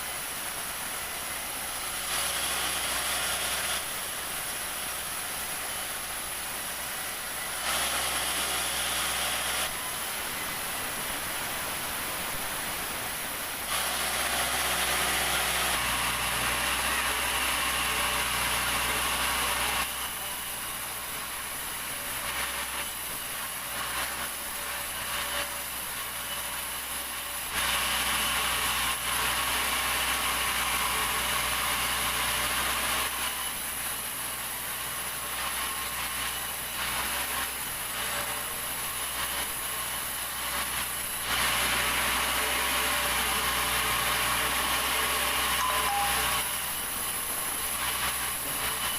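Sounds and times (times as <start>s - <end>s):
constant high whine: 0.0s - 48.9s
sawmill saw cutting timber: 0.0s - 48.9s.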